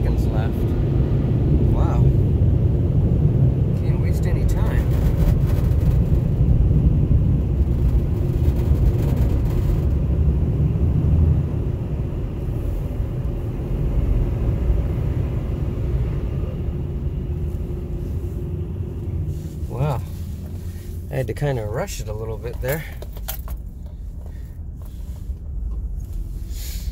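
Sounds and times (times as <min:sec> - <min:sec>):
van engine rumble: 0:00.0 - 0:26.9.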